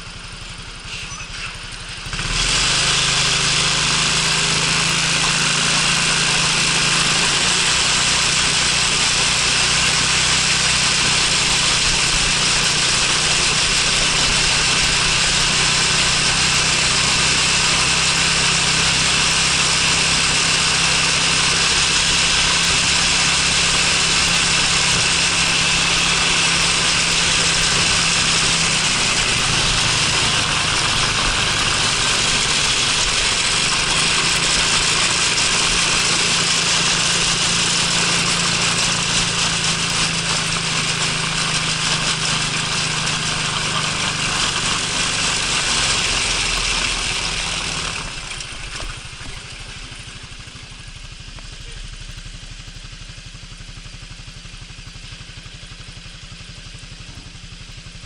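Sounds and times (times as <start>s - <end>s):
scooter engine: 0.0s - 58.0s.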